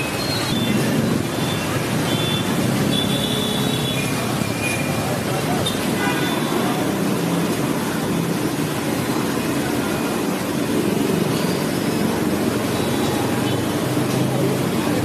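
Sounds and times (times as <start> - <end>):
scooter engines humming: 0.0 - 15.0
street noise: 0.0 - 15.0.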